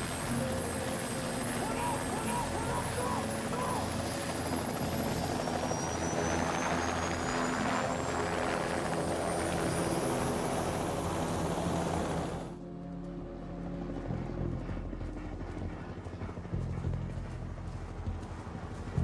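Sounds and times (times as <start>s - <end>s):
helicopter rotor and engine: 0.0s - 19.0s.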